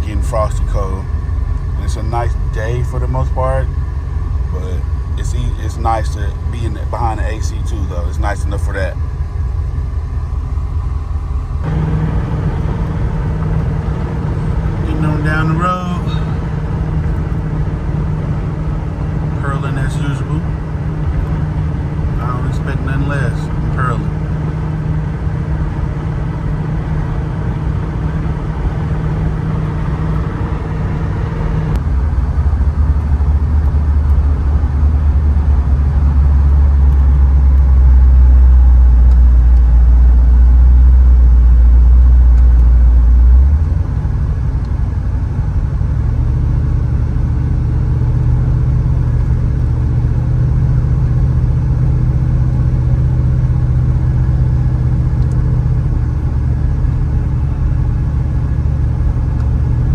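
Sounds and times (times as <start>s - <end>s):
car engine purring: 0.0s - 59.9s.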